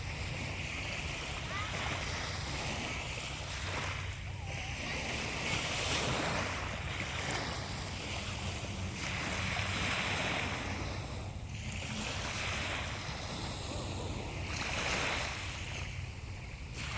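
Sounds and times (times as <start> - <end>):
sea waves breaking: 0.0 - 16.9.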